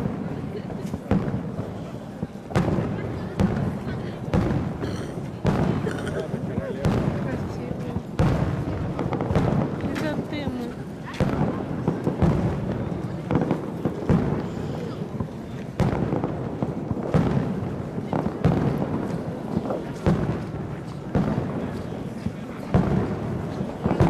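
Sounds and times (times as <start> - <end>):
fireworks bursting bangs: 0.0 - 24.0.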